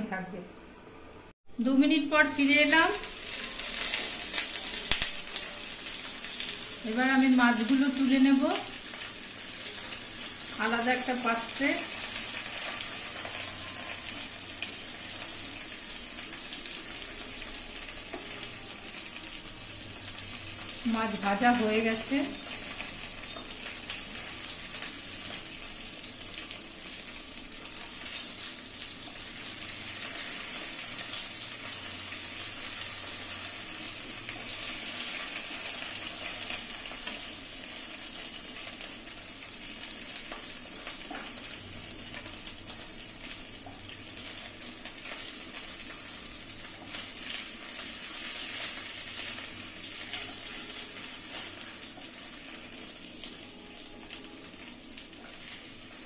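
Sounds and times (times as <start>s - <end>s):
fish sizzling in hot oil: 2.2s - 56.0s.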